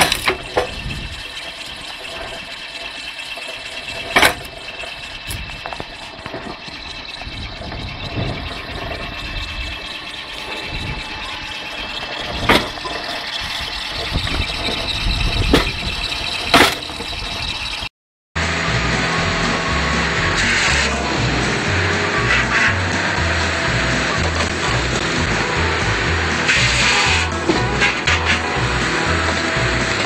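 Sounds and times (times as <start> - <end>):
wood splitting machine running: 0.0 - 30.0.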